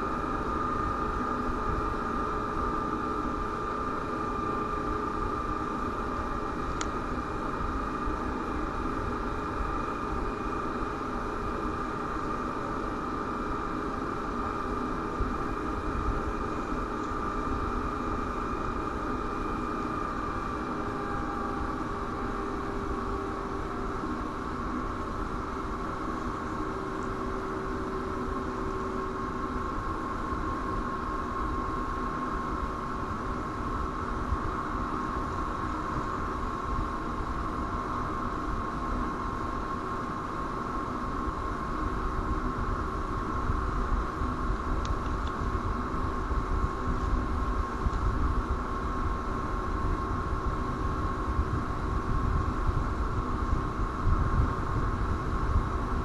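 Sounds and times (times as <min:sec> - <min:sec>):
background rumble and hiss: 0:00.0 - 0:56.0
faint electrical hum: 0:00.0 - 0:56.0
thin constant whine: 0:00.0 - 0:56.0.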